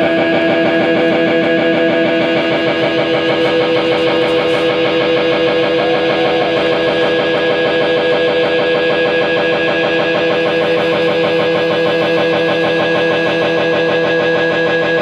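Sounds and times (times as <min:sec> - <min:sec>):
distorted electric guitar: 0:00.0 - 0:15.0
fast drumming: 0:00.1 - 0:14.8.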